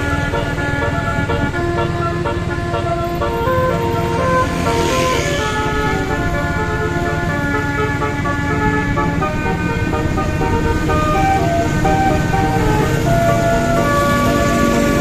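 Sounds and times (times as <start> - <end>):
low engine and road rumble: 0.0 - 15.0
musical bus horn playing tune: 0.0 - 15.0.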